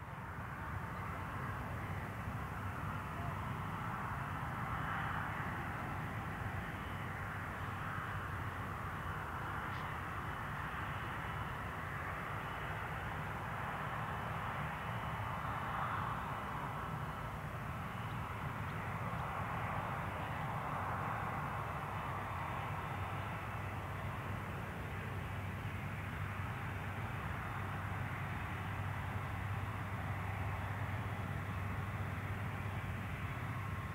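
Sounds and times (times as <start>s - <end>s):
jet engines running: 0.1s - 33.9s.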